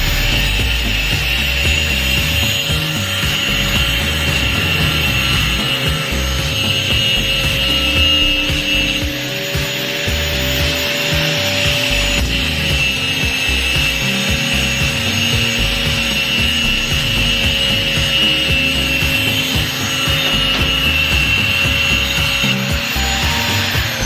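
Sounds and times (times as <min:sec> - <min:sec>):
constant whine: 0:00.0 - 0:24.0.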